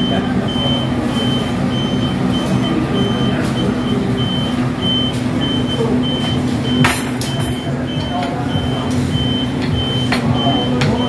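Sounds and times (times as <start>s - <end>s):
electronic beeper beeping: 0.0s - 11.0s.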